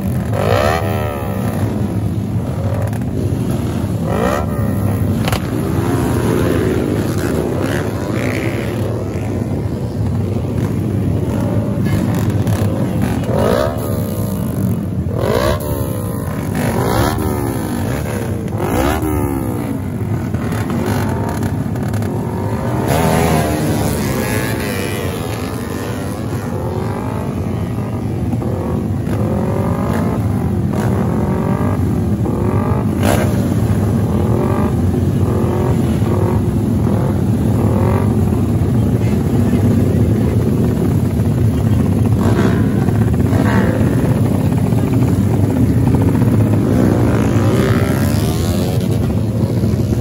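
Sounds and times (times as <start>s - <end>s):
motorcycle engines revving: 0.0s - 50.0s.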